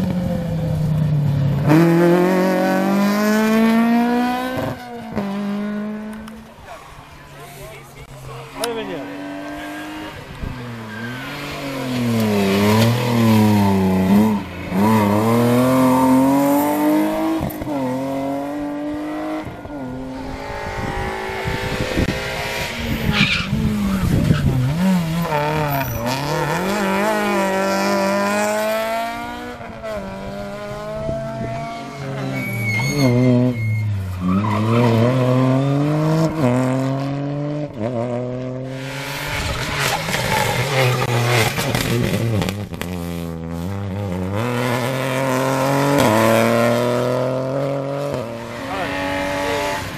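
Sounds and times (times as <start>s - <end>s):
rally car engines at full throttle: 0.0s - 49.9s.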